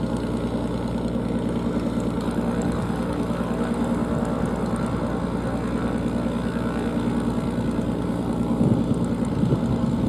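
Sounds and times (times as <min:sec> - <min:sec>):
propeller plane engine running: 0:00.0 - 0:10.0.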